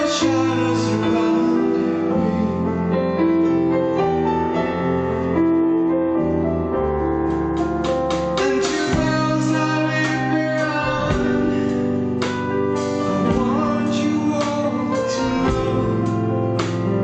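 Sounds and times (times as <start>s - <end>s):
held bass line: 0.0s - 17.0s
slow piano chords: 0.0s - 17.0s.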